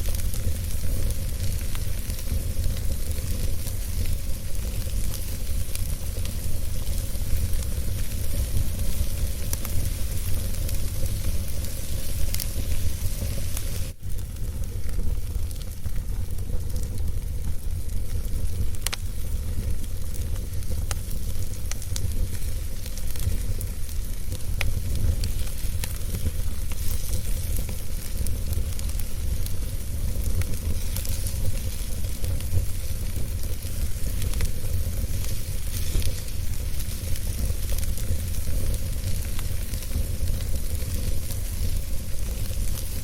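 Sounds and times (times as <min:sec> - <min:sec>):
fire crackles and pops: 0:00.0 - 0:43.0
wood fire rumble and hiss: 0:00.0 - 0:43.0.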